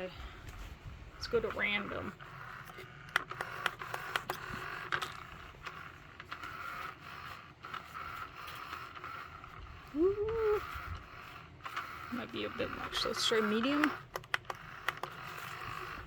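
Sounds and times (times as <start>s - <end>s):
small electric motor whine: 0.0s - 16.0s
toy scraping the floor: 0.0s - 16.0s.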